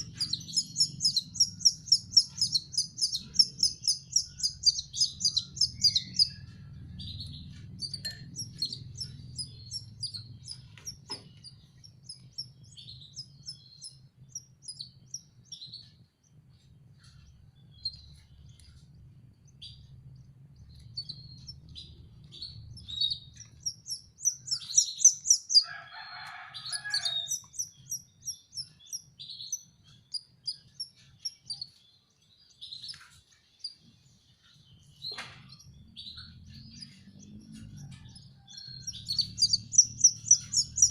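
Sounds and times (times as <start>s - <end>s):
canary chicks cheeping: 0.0s - 40.9s.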